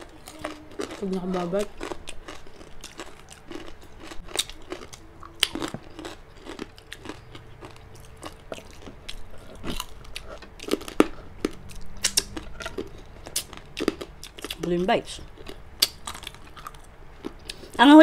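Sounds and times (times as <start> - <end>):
crunching crispy pork: 0.0 - 14.7, 15.3 - 17.6.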